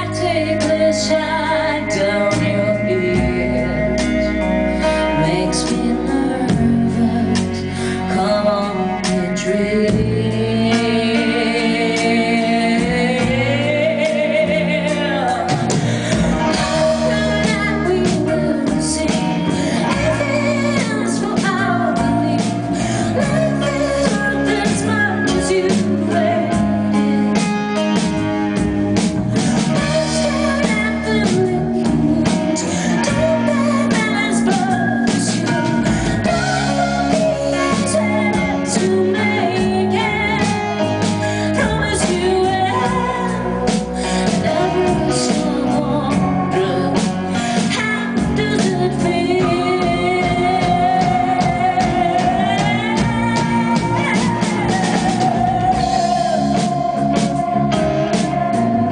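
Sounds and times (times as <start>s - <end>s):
live rock band playing: 0.0s - 58.9s
woman singing: 0.0s - 58.9s.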